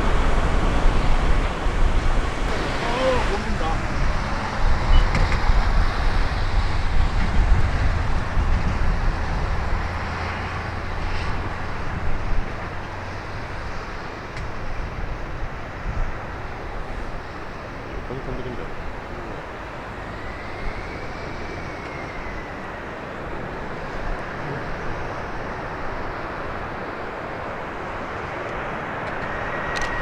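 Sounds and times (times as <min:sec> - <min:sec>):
jet engines rumbling: 0:00.0 - 0:30.0
wind buffeting microphone: 0:00.0 - 0:30.0.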